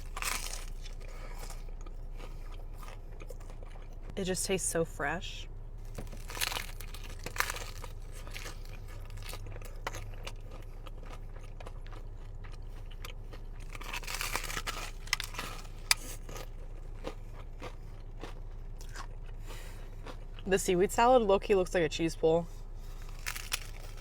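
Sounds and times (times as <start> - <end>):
person chewing crunchy food: 0.0 - 4.1, 5.8 - 20.5, 22.7 - 24.0.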